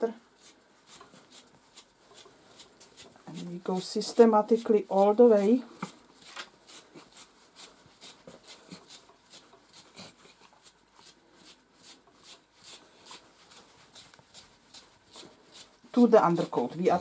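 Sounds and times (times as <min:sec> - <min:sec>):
stripping knife scratchy rasps: 0:00.4 - 0:16.7.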